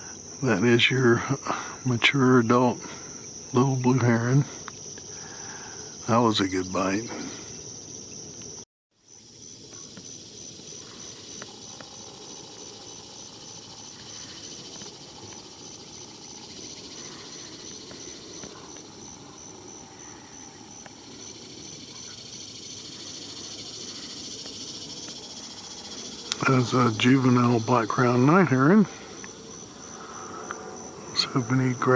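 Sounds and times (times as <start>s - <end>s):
faint outdoor ambience: 0.0s - 31.9s
insects trilling: 0.0s - 31.9s.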